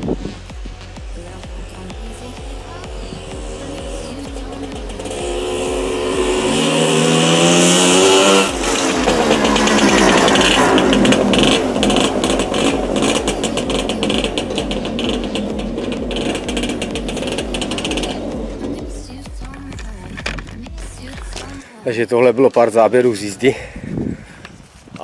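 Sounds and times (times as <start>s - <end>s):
two-stroke moped engine passing: 0.0s - 21.7s.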